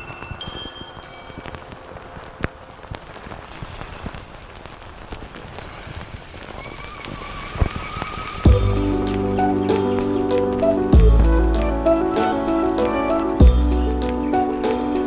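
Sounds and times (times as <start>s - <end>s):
crackling rain-like patter: 0.0s - 15.0s.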